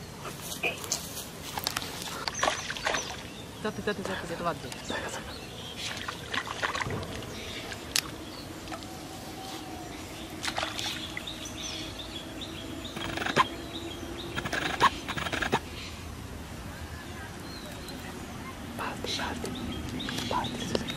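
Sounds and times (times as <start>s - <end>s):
faint outdoor ambience: 0.0s - 20.9s.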